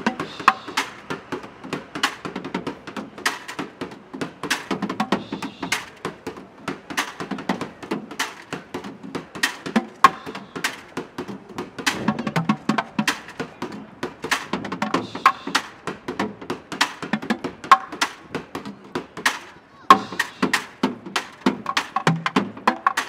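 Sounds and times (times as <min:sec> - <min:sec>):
sticks drumming on plastic buckets: 0:04.4 - 0:23.0.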